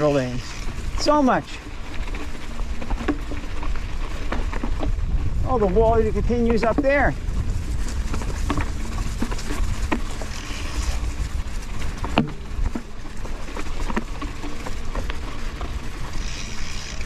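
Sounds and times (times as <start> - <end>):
bike knocking and rattling: 0.0 - 17.0
low rumble: 0.0 - 17.0.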